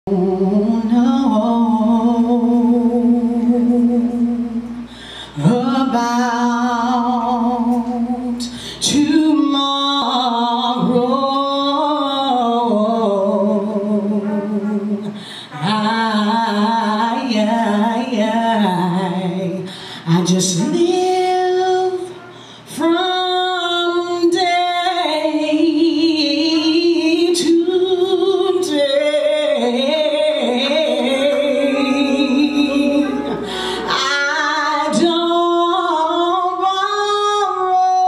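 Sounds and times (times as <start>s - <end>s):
woman singing gospel song: 0.0s - 38.0s.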